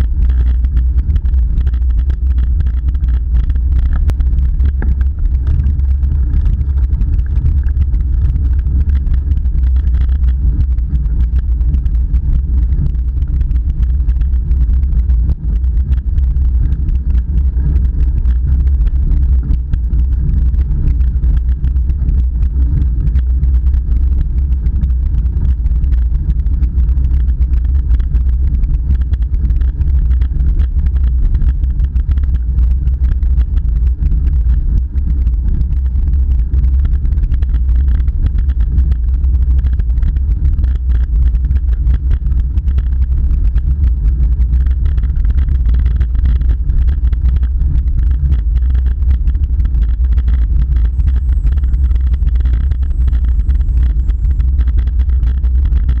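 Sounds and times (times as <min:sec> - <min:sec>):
wind buffeting microphone: 0:00.0 - 0:39.0, 0:42.1 - 0:56.0.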